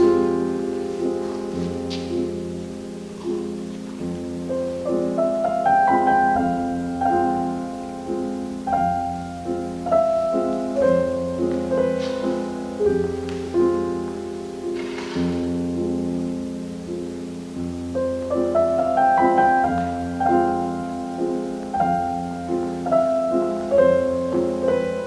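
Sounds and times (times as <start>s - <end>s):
slow piano music: 0.0s - 25.0s.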